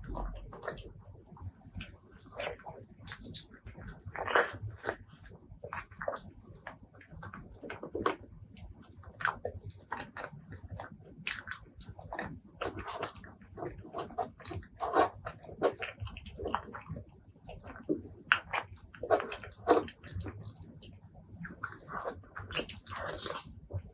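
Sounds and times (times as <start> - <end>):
wet chewing: 1.6 - 23.8.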